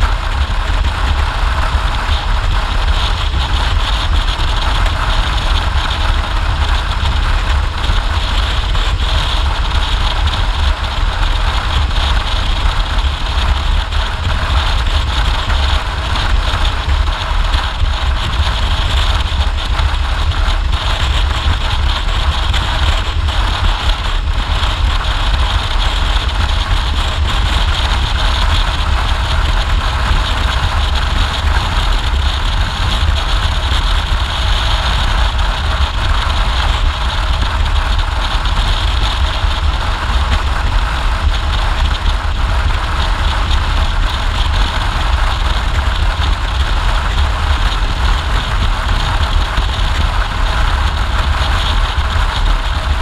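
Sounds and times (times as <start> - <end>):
motorcycle engine and tyres: 0.0 - 53.0
wind rushing on microphone: 0.0 - 53.0.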